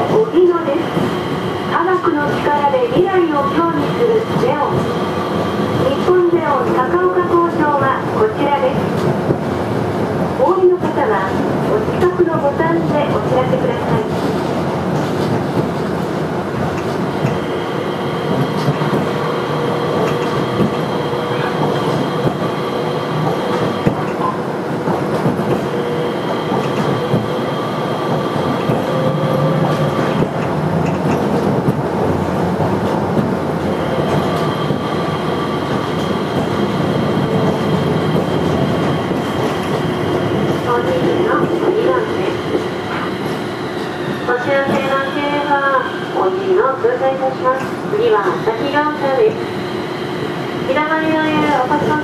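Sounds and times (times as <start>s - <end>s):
tram wheels rumbling on rail: 0.0s - 52.0s.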